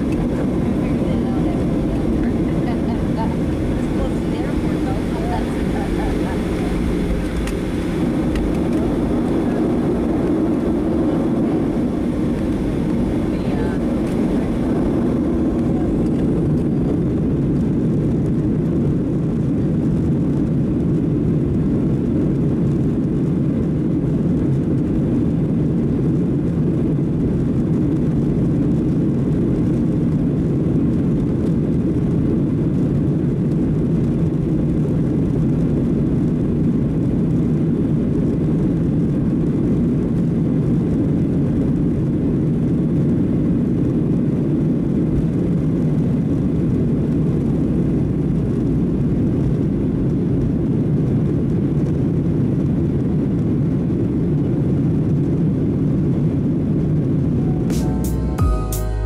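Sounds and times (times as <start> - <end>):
aircraft cabin engine roar: 0.0 - 59.0.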